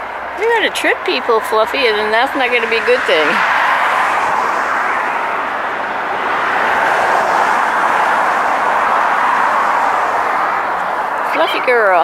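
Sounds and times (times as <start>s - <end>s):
passing car traffic: 0.0s - 12.0s.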